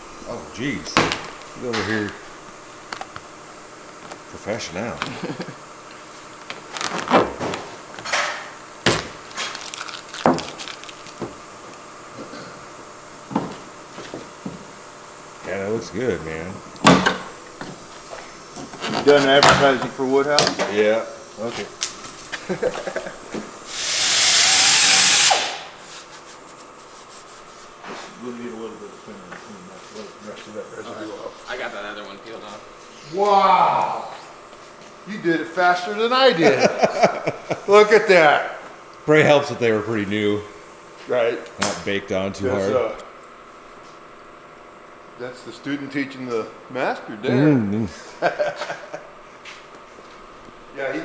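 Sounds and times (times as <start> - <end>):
air tool hissing and whining: 0.0 - 43.1.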